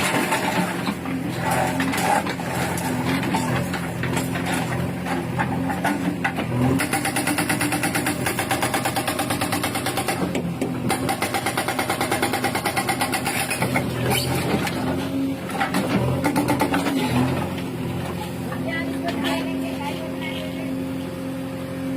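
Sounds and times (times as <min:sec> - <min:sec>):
hydraulic hammer pounding: 0:00.0 - 0:19.6
diesel engine running: 0:00.0 - 0:21.9.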